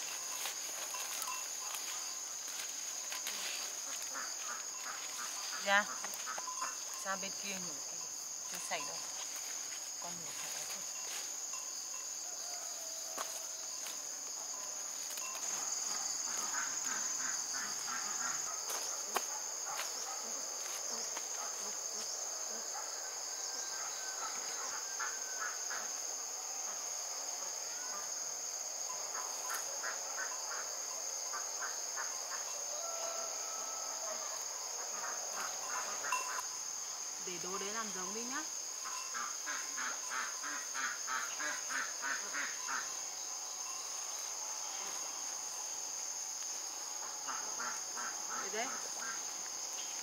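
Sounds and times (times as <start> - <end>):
crickets chorus: 0.0 - 50.0.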